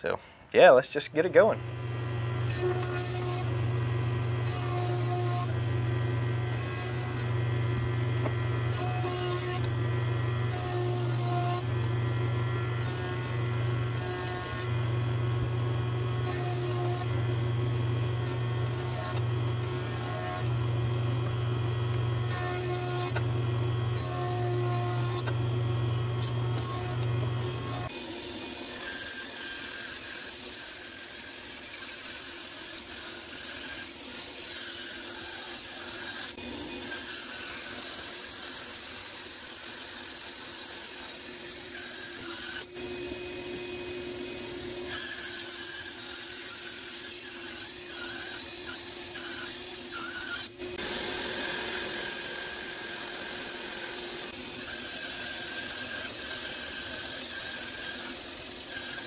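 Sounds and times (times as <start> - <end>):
bandsaw cutting wood: 1.2 - 43.6, 44.4 - 59.0.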